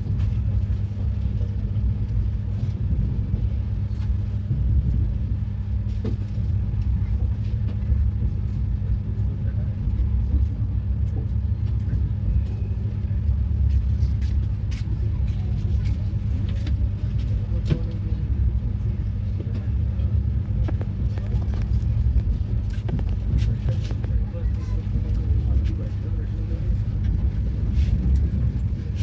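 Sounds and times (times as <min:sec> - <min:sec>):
train rumbling on board: 0:00.0 - 0:29.0.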